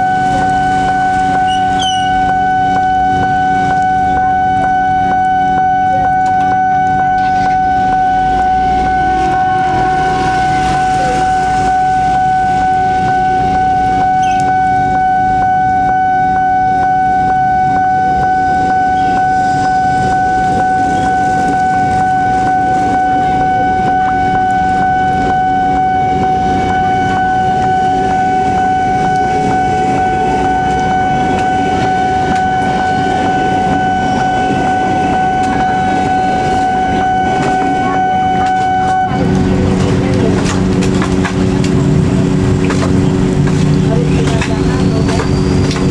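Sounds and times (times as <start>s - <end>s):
crossing alarm warning tone: 0.0s - 45.9s
train rumbling: 0.0s - 45.9s
rain hissing: 5.9s - 14.5s, 16.4s - 45.9s.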